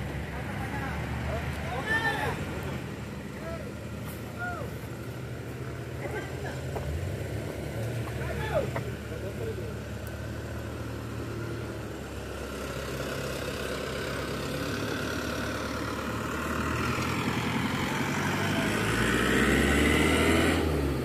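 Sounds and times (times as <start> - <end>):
engine idling: 0.0 - 18.8
engine straining uphill: 0.0 - 21.0.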